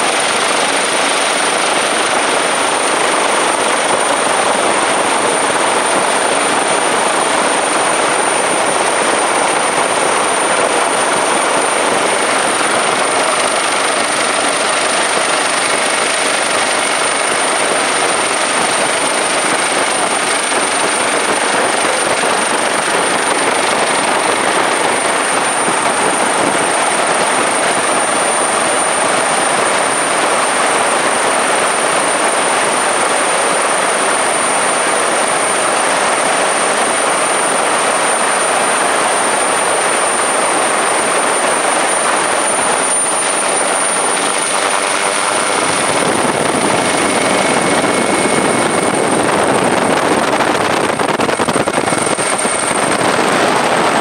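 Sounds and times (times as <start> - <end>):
high turbine whine: 0.0 - 54.0
rush of rotor and wind: 0.0 - 54.0.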